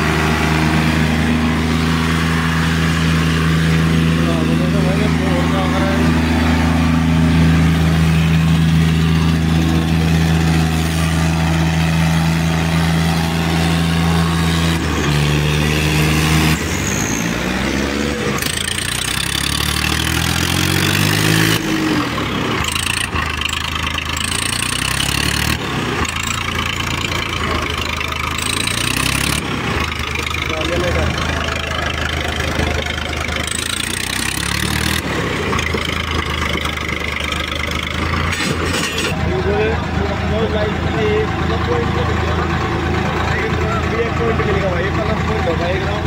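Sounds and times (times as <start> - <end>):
diesel tractor engines revving: 0.0 - 46.0.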